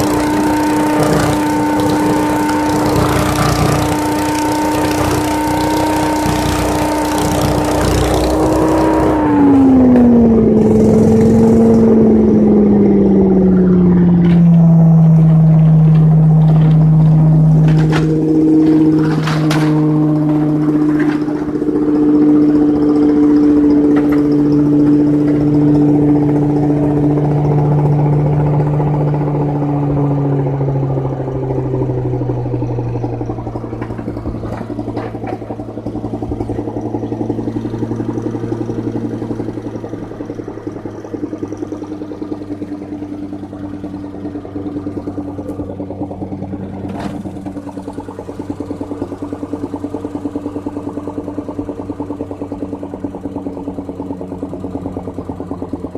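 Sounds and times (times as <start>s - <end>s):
leaf vacuum motor with air rush: 0.0s - 55.9s.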